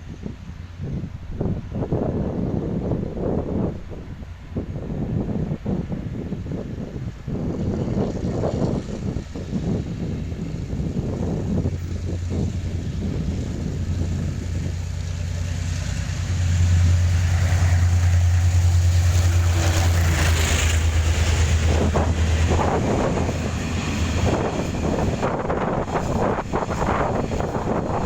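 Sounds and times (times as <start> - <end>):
locomotive low hum: 0.0 - 28.0
wind buffeting microphone: 0.0 - 28.0.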